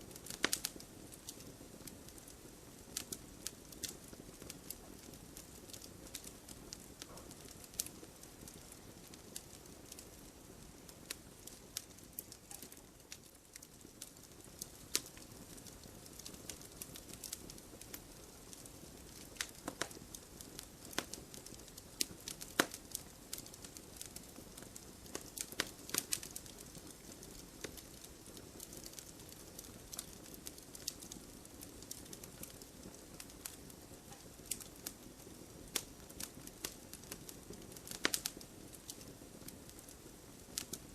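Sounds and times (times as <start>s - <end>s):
bonfire crackling and popping: 0.0s - 40.9s
hiss of flames: 0.0s - 40.9s.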